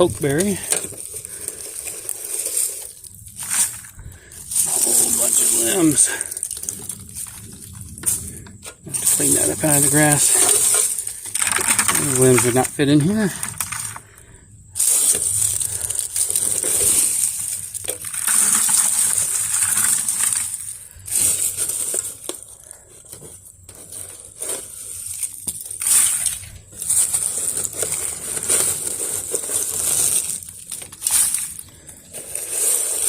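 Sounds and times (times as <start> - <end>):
wet leaves scooped from gutter: 0.0 - 14.0, 14.8 - 22.3, 23.2 - 33.0.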